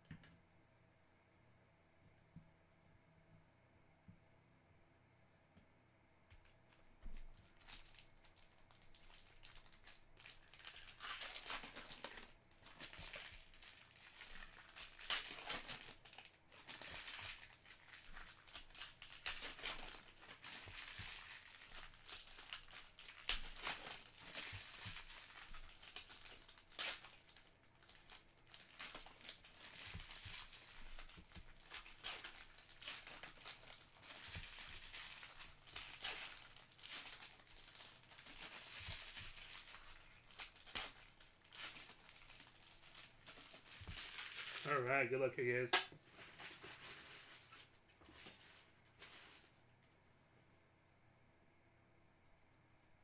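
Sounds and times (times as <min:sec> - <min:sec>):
foil wrappers crinkling: 0:06.4 - 0:49.7.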